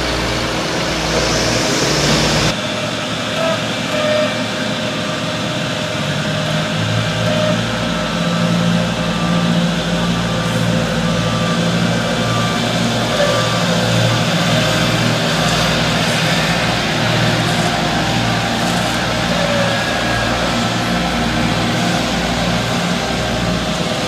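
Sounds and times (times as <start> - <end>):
diesel paving machine running: 0.0 - 24.0.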